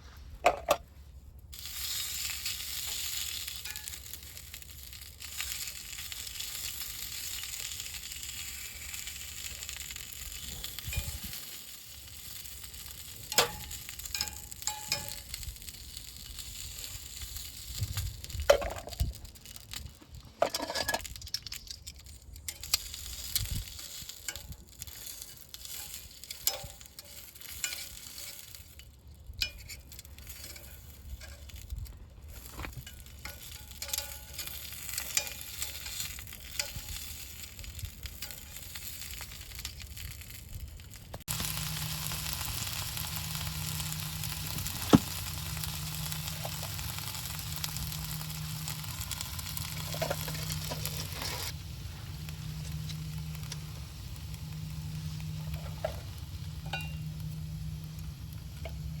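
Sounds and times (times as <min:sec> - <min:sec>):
food sizzling on a grill: 0:01.5 - 0:59.0.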